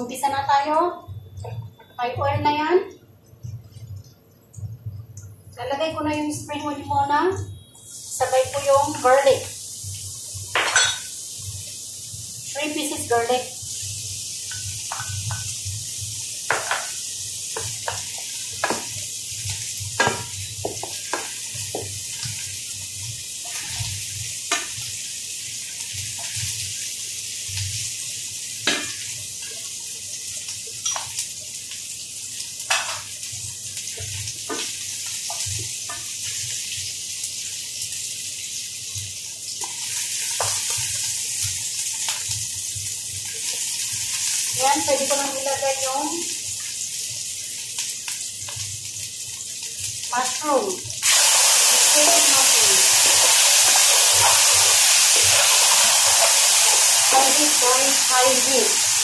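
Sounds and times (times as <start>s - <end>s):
onion and garlic sizzling in oil: 0.0s - 59.0s.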